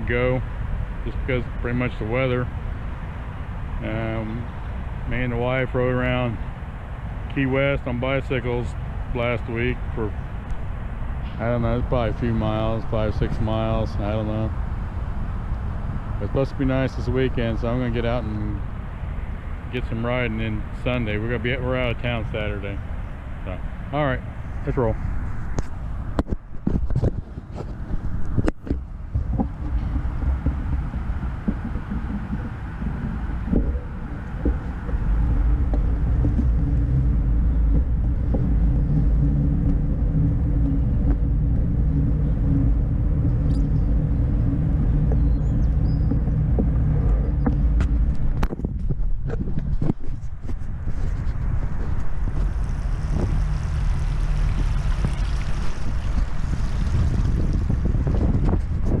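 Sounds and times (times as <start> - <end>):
ride rumbling: 0.0 - 59.0
wind on microphone: 0.0 - 59.0.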